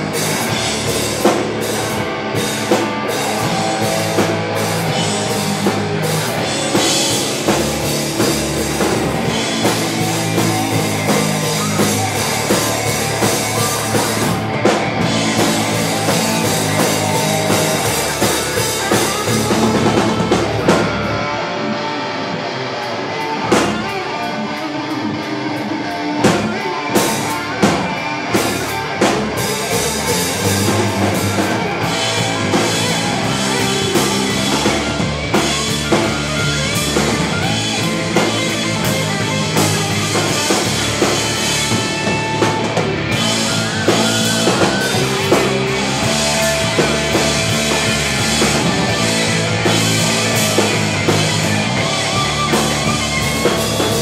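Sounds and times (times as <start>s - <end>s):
accented band hits: 0.0s - 21.9s, 26.2s - 54.0s
live rock band playing: 0.0s - 54.0s.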